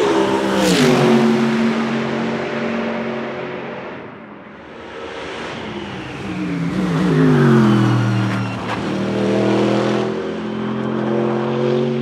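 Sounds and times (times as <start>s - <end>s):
race car engine passing by: 0.0s - 12.0s.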